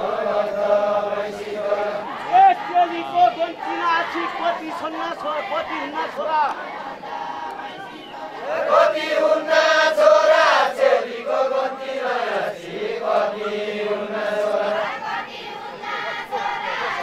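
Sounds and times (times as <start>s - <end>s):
men singing group chant: 0.0s - 17.0s.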